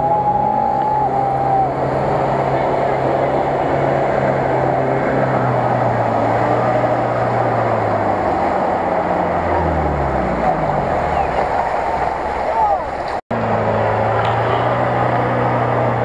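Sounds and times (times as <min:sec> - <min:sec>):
truck engine running: 0:00.0 - 0:16.0
water splashing: 0:00.0 - 0:16.0.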